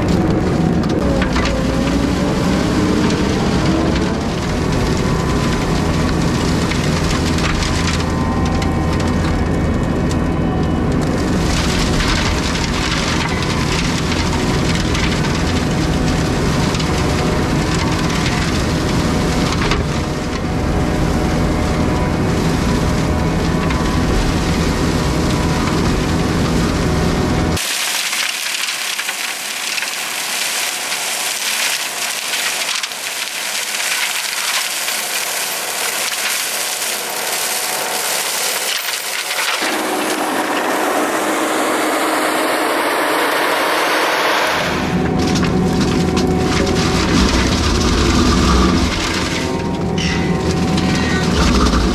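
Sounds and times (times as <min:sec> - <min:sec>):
flail mower shredding brush: 0:00.0 - 0:51.9
skid steer engine running: 0:00.0 - 0:51.9.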